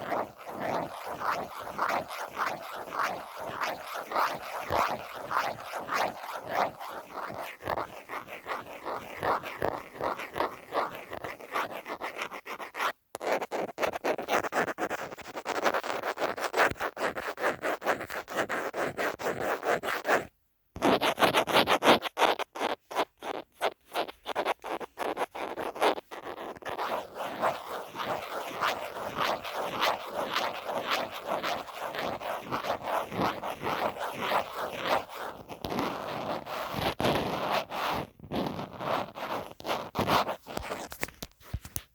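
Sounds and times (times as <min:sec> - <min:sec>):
scratching on a phone case: 0:00.0 - 0:41.9.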